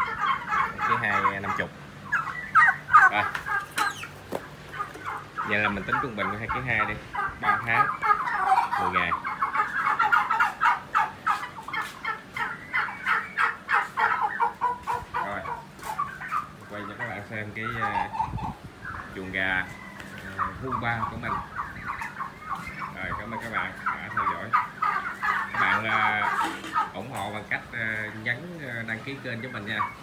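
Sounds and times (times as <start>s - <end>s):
lower wavering turkey calls: 0.0s - 30.0s
young turkeys chirping: 0.0s - 30.0s.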